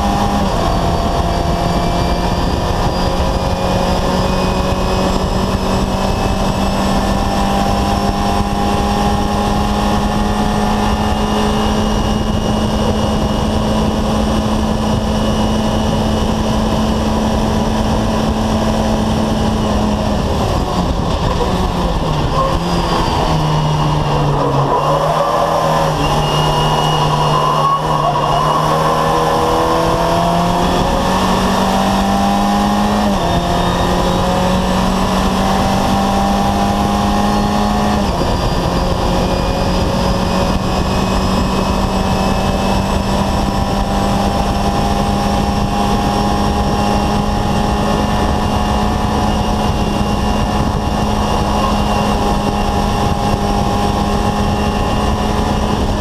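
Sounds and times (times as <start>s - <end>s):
race car engine at high revs: 0.0s - 56.0s
wind and road noise: 0.0s - 56.0s.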